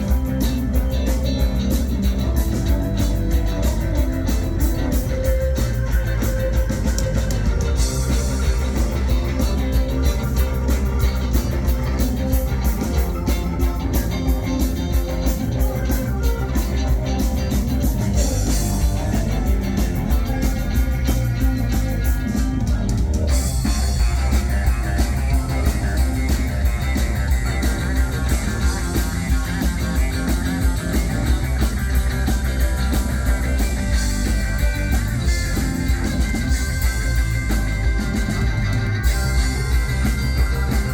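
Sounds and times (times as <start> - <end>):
bass: 0.0 - 40.9
drums with cymbals: 0.0 - 40.9
guitar: 0.0 - 40.9.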